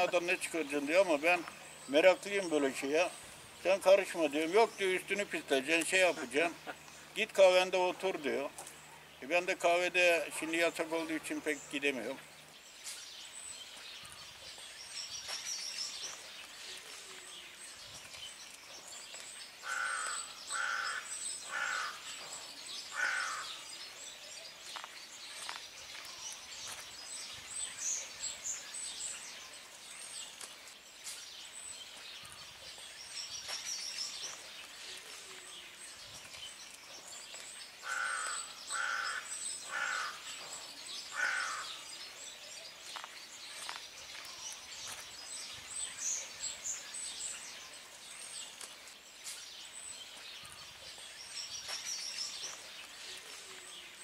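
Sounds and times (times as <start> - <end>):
birds calling: 0.0 - 54.0
steady background hiss: 0.0 - 54.0.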